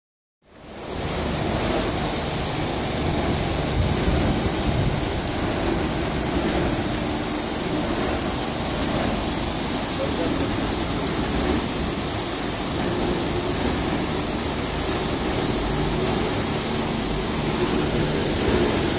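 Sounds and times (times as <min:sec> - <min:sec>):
carpet washing machine scrubbing: 0:01.0 - 0:18.9.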